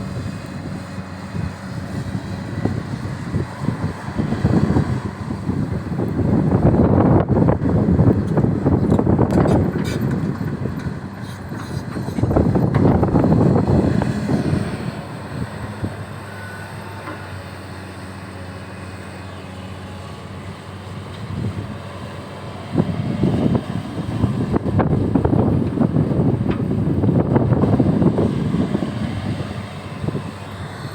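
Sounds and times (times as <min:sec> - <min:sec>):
engine rushing surges: 0:00.0 - 0:30.9
excavator diesel engine running: 0:00.0 - 0:30.9.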